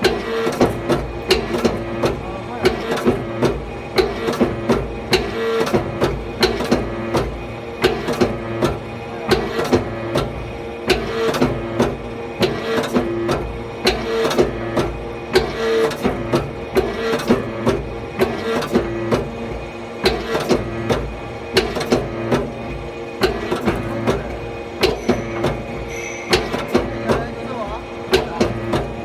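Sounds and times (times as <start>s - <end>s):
forging press humming: 0.0s - 29.0s.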